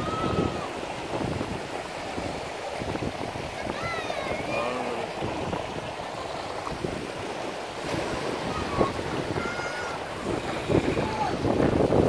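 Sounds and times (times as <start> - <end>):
water splash: 0.0 - 11.4
seawater sloshing in rock pool: 0.0 - 12.0
surf rushing against rock: 0.0 - 12.0.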